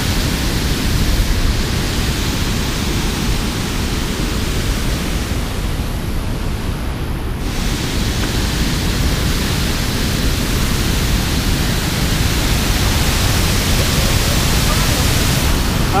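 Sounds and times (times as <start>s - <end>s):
water rushing over dam spillway: 0.0s - 16.0s.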